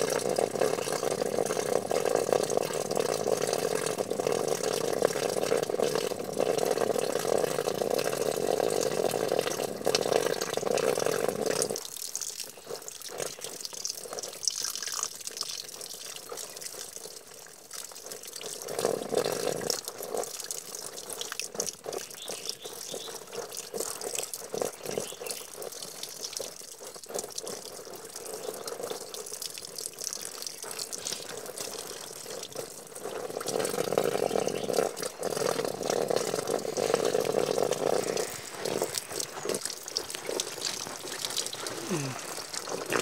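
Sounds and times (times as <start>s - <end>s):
small drips and clatters: 0.0s - 43.0s
water running and splashing: 0.0s - 43.0s.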